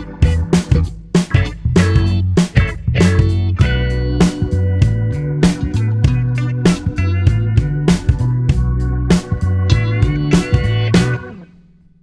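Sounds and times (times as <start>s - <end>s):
steady drum beat: 0.0s - 11.2s
bass: 0.0s - 12.0s
guitar: 0.0s - 12.0s.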